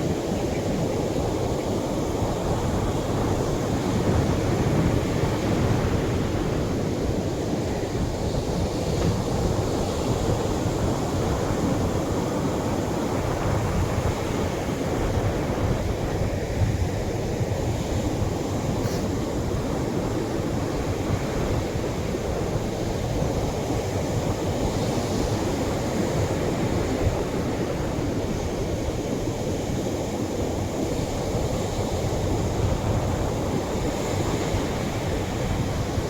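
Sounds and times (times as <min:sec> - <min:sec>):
waves washing on a shore: 0:00.0 - 0:36.0.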